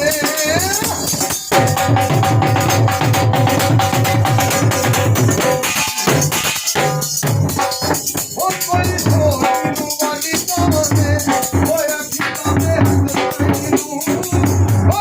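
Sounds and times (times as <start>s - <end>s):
drumming in a steady beat: 0.0s - 15.0s.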